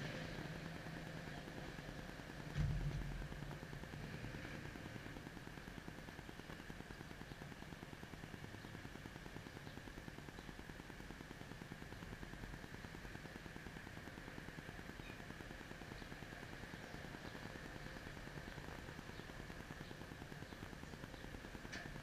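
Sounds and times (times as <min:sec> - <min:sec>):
low outdoor background noise: 0:00.0 - 0:22.0.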